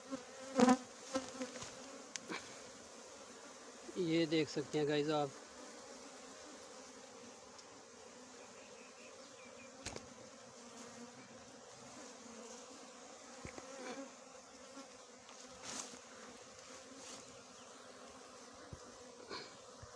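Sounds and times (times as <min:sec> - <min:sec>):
bees buzzing: 0:00.0 - 0:19.9.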